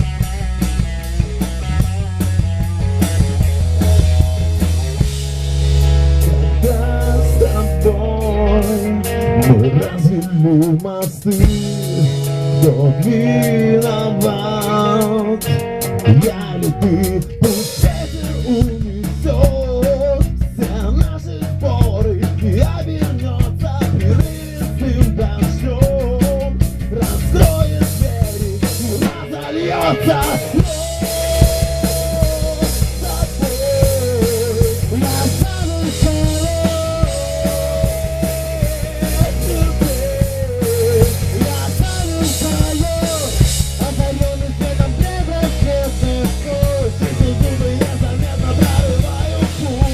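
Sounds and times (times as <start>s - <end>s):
rock band playing: 0.0s - 49.9s.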